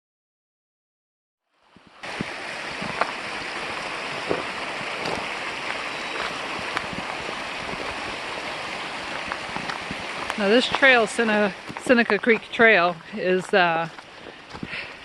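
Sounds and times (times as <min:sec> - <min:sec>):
creek water running: 0:01.5 - 0:15.0.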